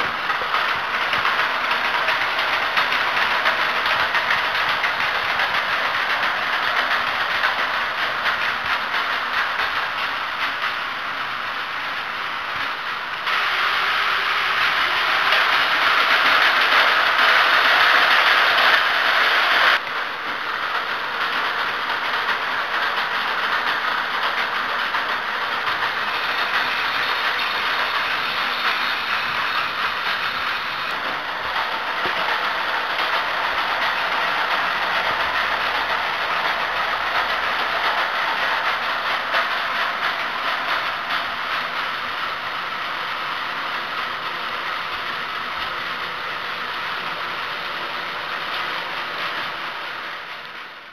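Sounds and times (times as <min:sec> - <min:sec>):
toy train motors whirring: 0:00.0 - 0:50.9
wheels rattling on plastic rails: 0:00.0 - 0:50.9.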